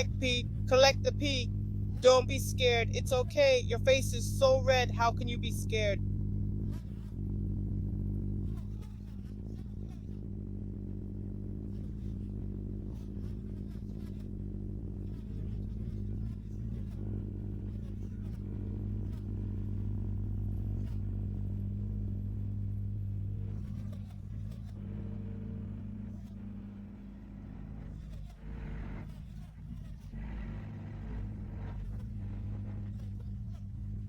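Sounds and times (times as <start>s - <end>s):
excavator diesel engine droning: 0.0s - 34.0s.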